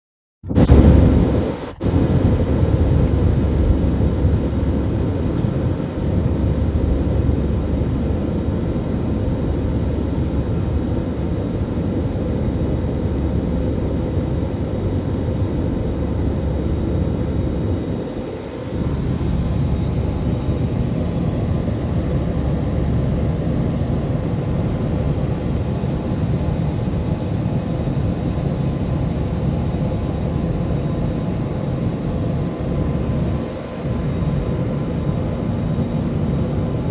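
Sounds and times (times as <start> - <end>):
airliner cabin engine rumble: 0.5 - 36.9
faint steady hum: 0.5 - 36.9.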